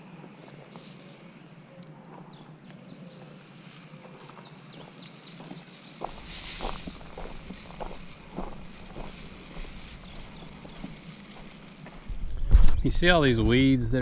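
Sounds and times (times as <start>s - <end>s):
birds chirping: 0.0s - 12.1s
steady low hum: 0.0s - 14.0s.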